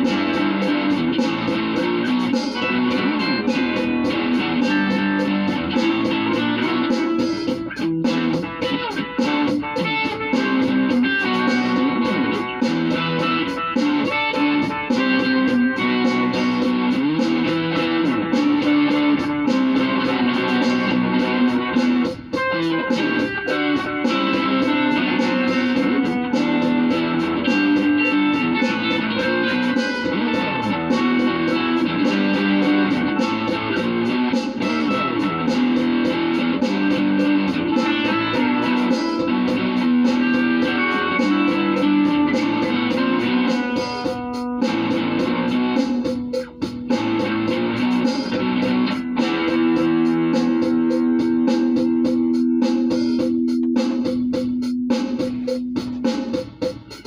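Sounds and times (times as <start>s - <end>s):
plucked guitar music: 0.0s - 57.0s.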